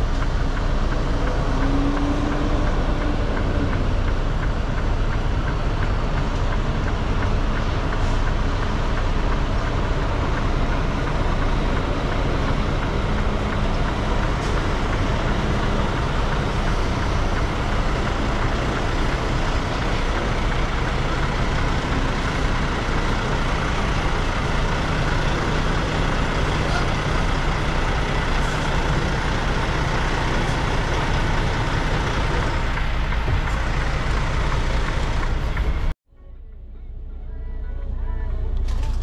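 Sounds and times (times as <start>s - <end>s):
road and wind noise: 0.0s - 36.0s
truck engine drone: 0.0s - 39.0s.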